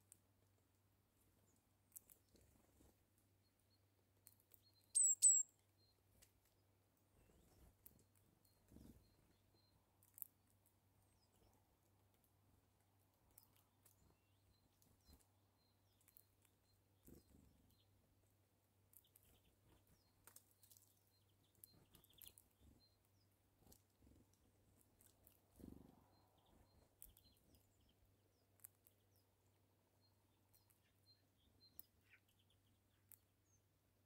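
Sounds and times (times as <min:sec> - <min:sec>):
faint bird chirps: 0:01.4 - 0:12.5, 0:13.2 - 0:34.0.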